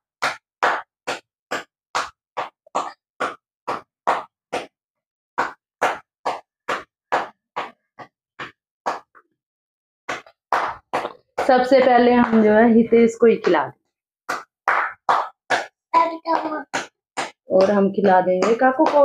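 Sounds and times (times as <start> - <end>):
rhythmic hand clapping: 0.0 - 4.8, 5.4 - 9.2, 10.1 - 12.8, 14.3 - 19.0.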